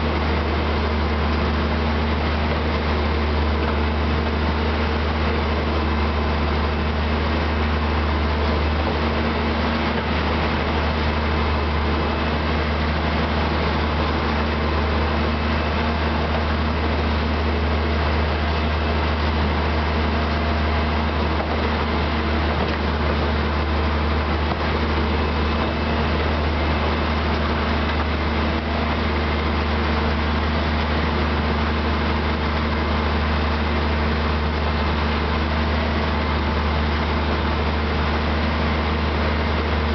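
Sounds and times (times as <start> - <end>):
diesel locomotive engine hum: 0.0 - 39.9.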